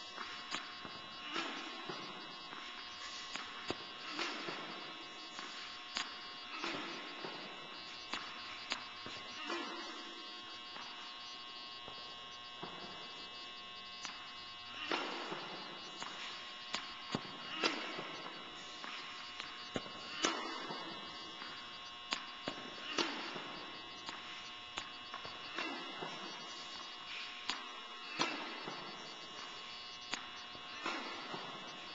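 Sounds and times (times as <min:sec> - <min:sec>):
steady electrical hum: 0:00.0 - 0:31.9.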